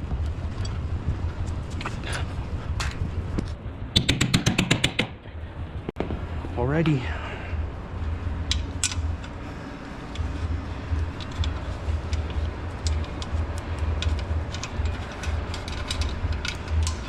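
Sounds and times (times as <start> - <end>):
low rumble of shop background: 0.0 - 17.0.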